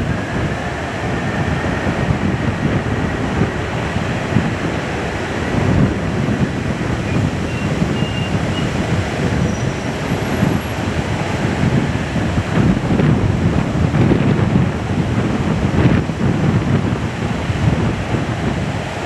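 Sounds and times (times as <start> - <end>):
jet engines rumbling with whine: 0.0 - 19.0
wind buffeting microphone: 0.0 - 19.0.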